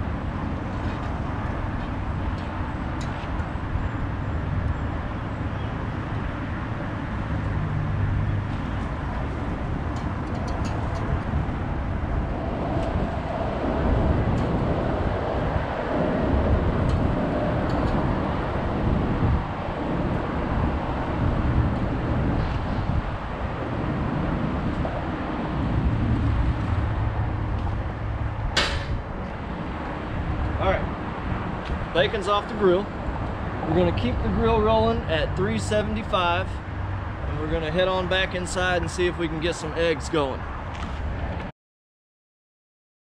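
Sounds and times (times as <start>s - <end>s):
wind on microphone: 0.0s - 37.6s
passing traffic: 0.0s - 41.5s.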